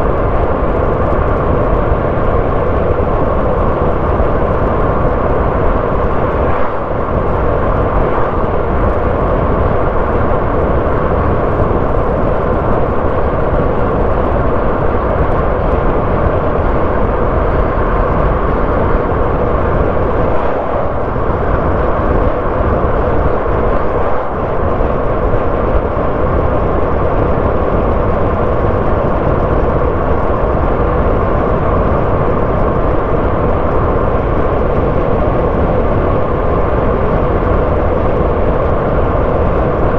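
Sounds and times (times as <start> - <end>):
car tyre and engine noise: 0.0 - 39.9.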